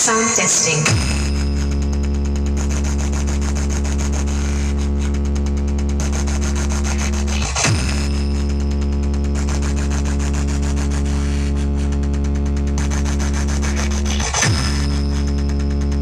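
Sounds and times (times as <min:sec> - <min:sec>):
deep bass test tone: 0:00.8 - 0:16.0.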